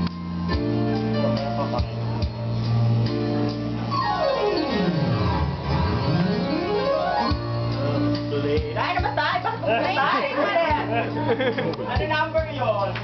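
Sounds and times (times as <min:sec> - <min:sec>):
instrumental keyboard music: 0:00.0 - 0:13.0.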